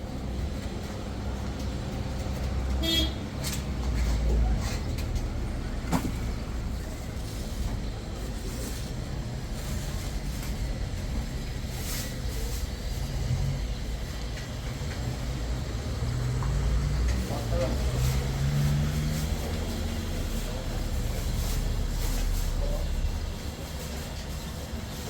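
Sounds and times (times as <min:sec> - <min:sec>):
road noise: 0:00.0 - 0:25.0
vehicle engine running: 0:00.0 - 0:25.0.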